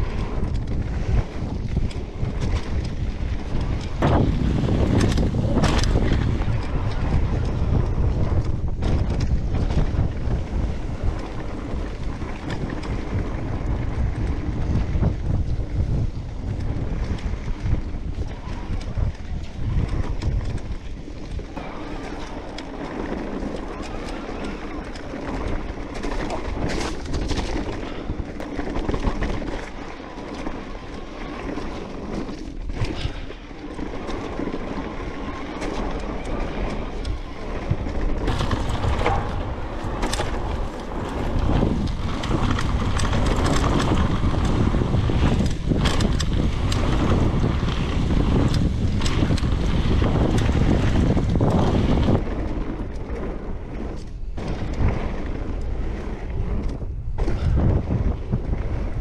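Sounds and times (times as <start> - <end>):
bike rattling over bumps: 0.0 - 59.0
bike tyre rumble: 0.0 - 59.0
wind buffeting microphone: 0.0 - 59.0.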